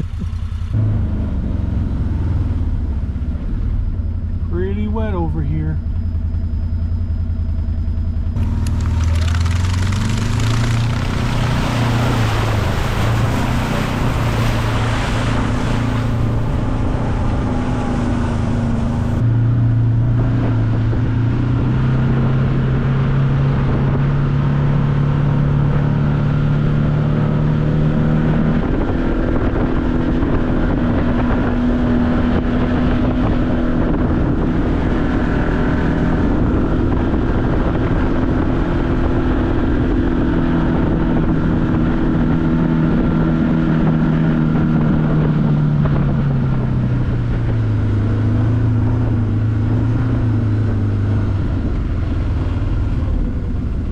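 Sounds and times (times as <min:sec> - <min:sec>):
utility vehicle engine running: 0:00.0 - 0:53.9.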